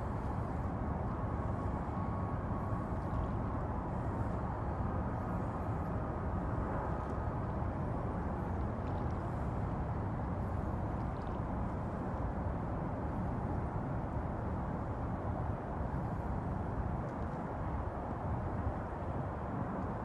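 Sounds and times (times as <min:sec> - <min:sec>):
harbour ambience rumble and hiss: 0:00.0 - 0:20.0.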